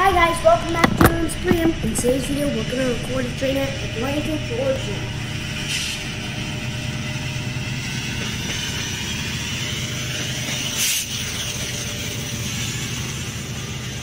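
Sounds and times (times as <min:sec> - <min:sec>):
diesel locomotive engine drone: 0:00.0 - 0:14.0
hissing burst: 0:00.0 - 0:14.0
rushing noise: 0:00.0 - 0:14.0.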